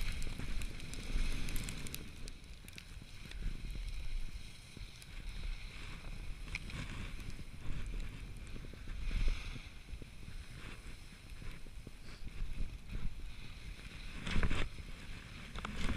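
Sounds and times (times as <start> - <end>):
skis hissing on snow: 0.0 - 15.8
wind buffeting microphone: 0.0 - 15.9.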